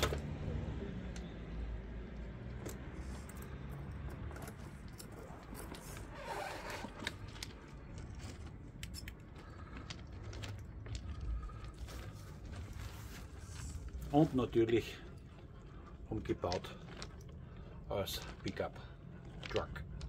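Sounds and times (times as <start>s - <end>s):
pebbles crunching under tyres: 0.0s - 20.0s.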